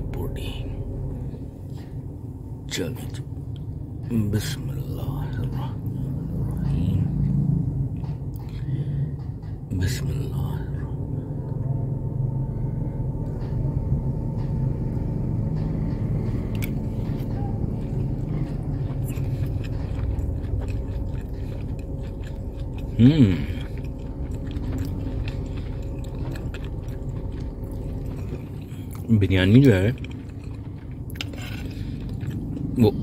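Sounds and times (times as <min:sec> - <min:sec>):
steady low rumble: 0:00.0 - 0:33.0
person chewing food: 0:03.4 - 0:33.0.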